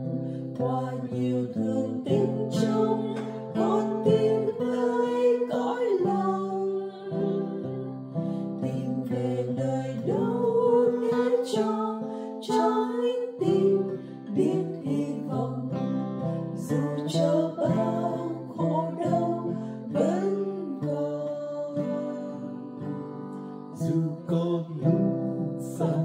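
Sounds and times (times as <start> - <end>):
acoustic guitar: 0.0 - 26.0
people singing a hymn: 0.0 - 26.0.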